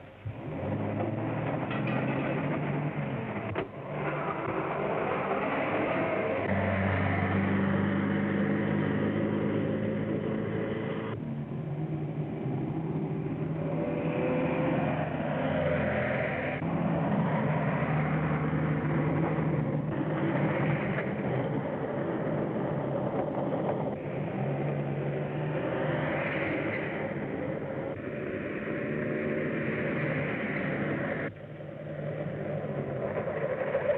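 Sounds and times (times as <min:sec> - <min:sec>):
car engine droning hum: 0:00.0 - 0:33.9
road noise: 0:00.0 - 0:33.9.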